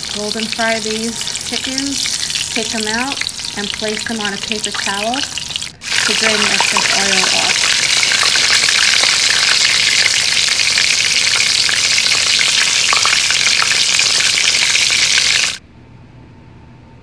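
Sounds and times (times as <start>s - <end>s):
chicken sizzling in oil: 0.0s - 15.6s.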